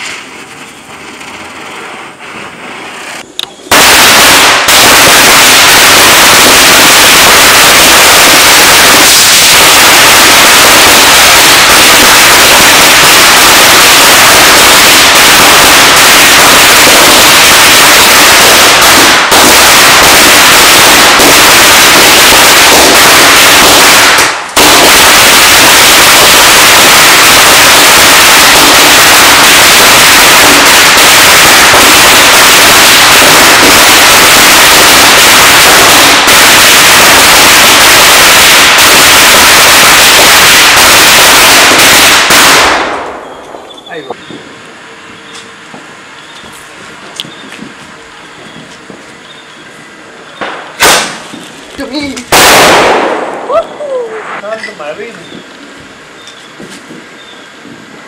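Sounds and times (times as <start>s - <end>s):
string of firecrackers bursting: 0.0s - 58.0s.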